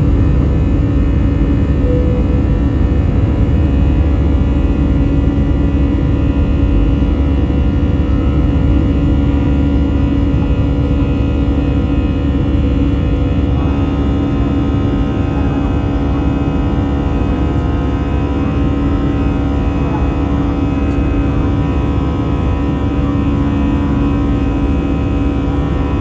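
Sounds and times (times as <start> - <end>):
jet engines rushing and rumbling: 0.0 - 26.0
steady whining tones: 0.0 - 26.0.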